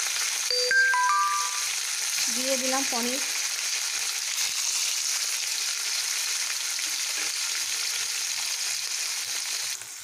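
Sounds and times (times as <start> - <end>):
cheese frying in oil: 0.0 - 0.5, 1.5 - 10.0.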